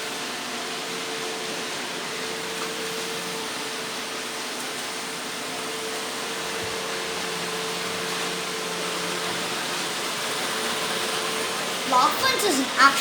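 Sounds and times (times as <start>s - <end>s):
robot vacuum cleaners whirring: 0.2s - 13.0s.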